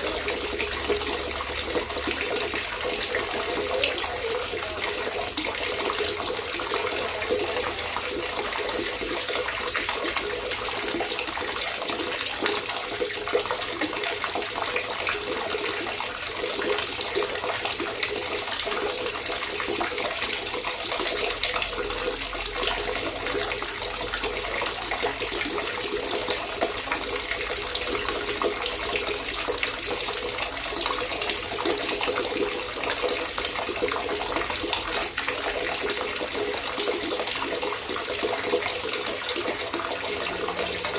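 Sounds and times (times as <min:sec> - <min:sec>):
water gurgling and trickling: 0:00.0 - 0:40.9.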